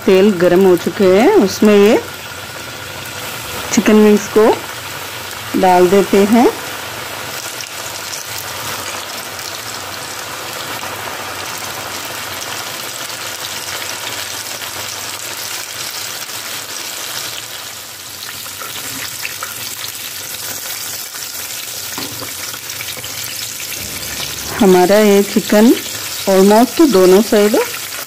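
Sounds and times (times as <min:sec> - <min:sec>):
chicken deep-frying in hot oil: 0:00.0 - 0:28.0.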